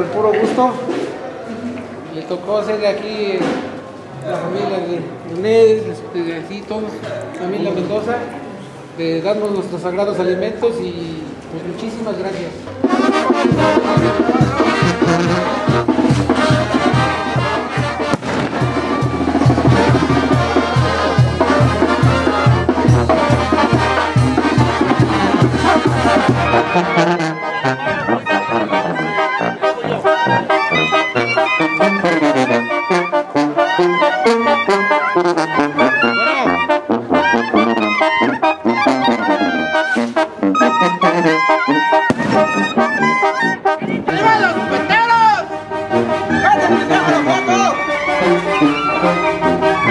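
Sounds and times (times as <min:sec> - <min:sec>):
brass band music: 0:00.0 - 0:01.5, 0:11.2 - 0:49.9.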